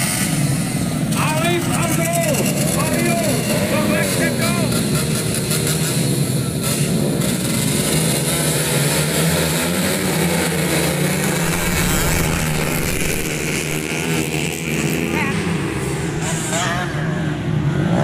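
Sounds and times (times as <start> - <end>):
motorcycle engines droning: 0.0 - 18.0.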